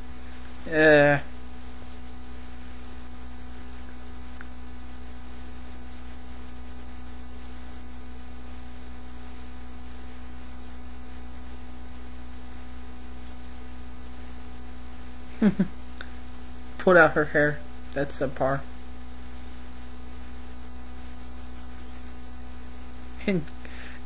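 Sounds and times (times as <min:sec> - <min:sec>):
electrical mains hum: 0:00.0 - 0:24.0
steady hiss: 0:00.0 - 0:24.0.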